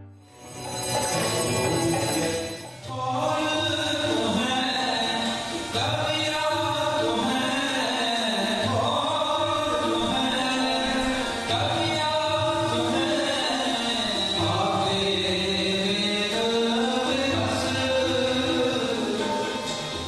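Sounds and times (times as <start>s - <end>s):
musical accompaniment: 0.0s - 20.0s.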